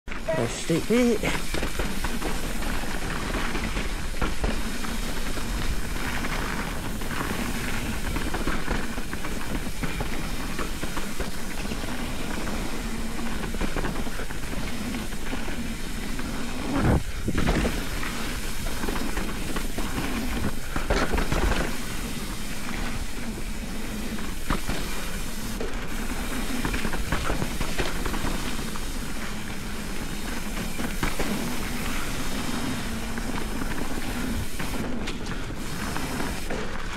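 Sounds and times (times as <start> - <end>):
bike rattling and knocking: 0.1 - 36.9
bike tyres rolling on dirt: 0.1 - 36.9.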